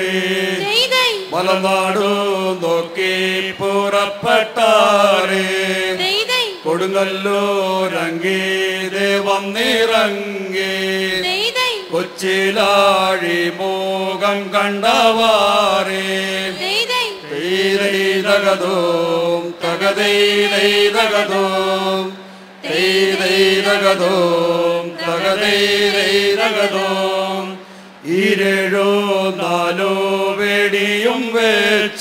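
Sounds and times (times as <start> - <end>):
group chanting through microphones: 0.0 - 32.0.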